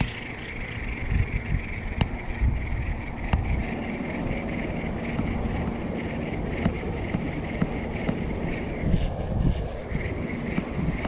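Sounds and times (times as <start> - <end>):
low hum: 0.0 - 11.0
wind on microphone: 0.0 - 11.0.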